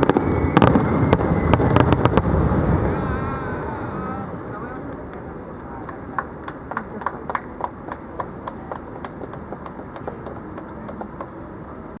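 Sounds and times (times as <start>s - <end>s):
crowd murmur: 2.4s - 12.0s.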